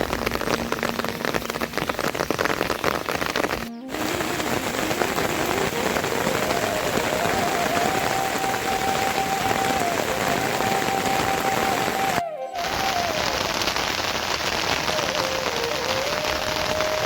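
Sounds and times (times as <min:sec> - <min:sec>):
rain falling on surfaces: 0:00.0 - 0:17.0.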